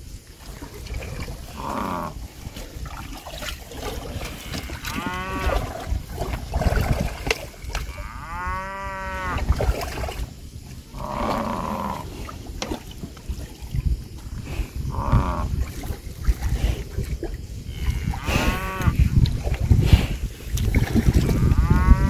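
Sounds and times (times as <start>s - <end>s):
water buffalo lowing: 0.4s - 22.0s.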